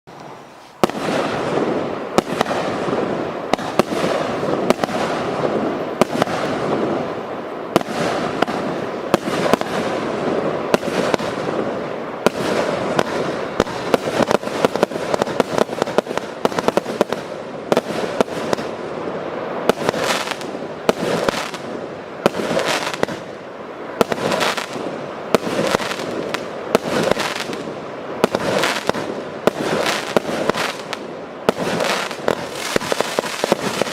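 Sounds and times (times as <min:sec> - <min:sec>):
rushing hiss of launches: 0:00.2 - 0:33.9
fireworks bangs: 0:00.3 - 0:33.9.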